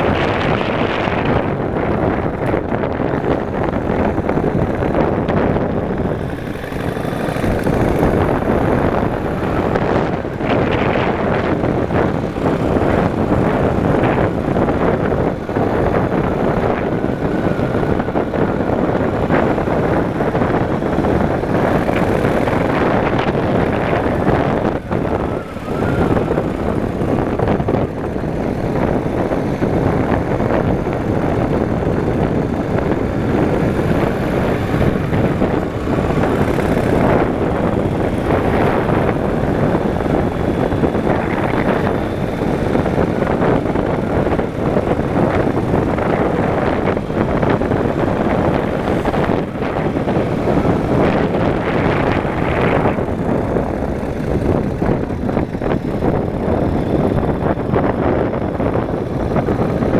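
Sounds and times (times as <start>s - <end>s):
motorcycle engine: 0.0s - 59.9s
wind rushing over microphone: 0.0s - 59.9s.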